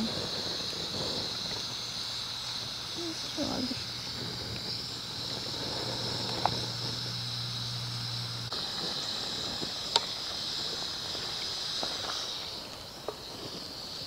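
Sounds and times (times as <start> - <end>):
low hum: 0.0 - 12.8
insects buzzing: 0.0 - 14.0
water boiling: 0.0 - 14.0.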